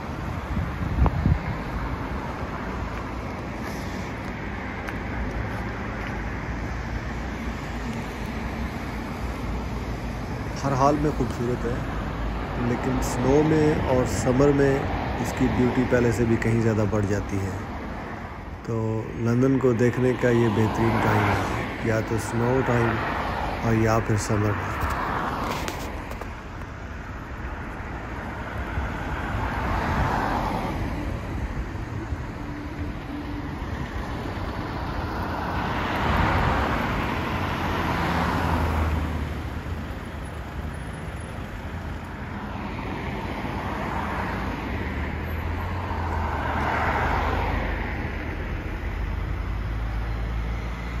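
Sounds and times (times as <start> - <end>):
cars driving past: 0.0 - 51.0.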